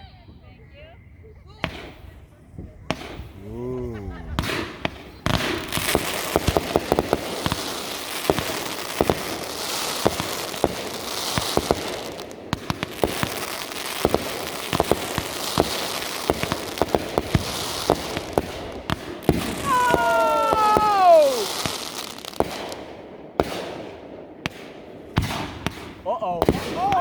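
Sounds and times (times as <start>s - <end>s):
whistling fireworks: 0.0s - 27.0s
fireworks crackling: 1.4s - 27.0s
firework bangs and pops: 1.6s - 2.2s, 2.8s - 3.6s, 4.3s - 27.0s.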